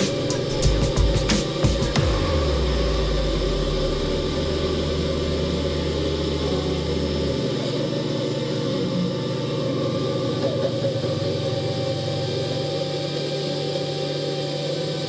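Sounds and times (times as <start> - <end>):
band sawmill engine running: 0.0 - 15.0.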